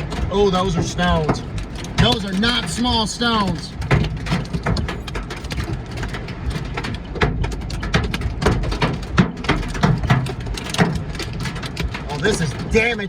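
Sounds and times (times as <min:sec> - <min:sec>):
hailstones banging on car roof: 0:00.0 - 0:13.0
low rumble of wind: 0:00.0 - 0:13.0.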